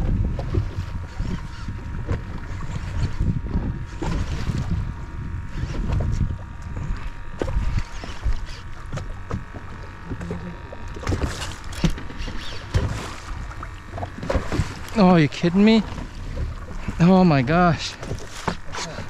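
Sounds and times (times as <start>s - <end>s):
water slapping against boat hull: 0.0s - 19.0s.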